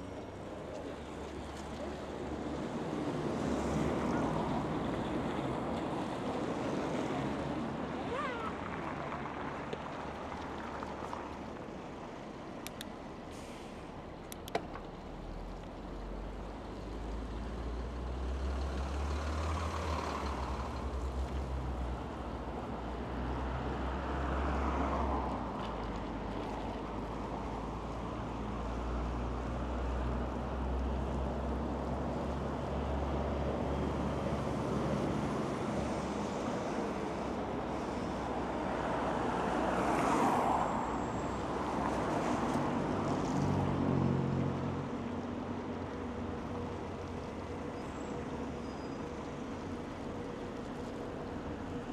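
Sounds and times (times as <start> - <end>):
rumble of cars and buses: 0.0 - 51.9
vehicles passing close: 0.0 - 51.9.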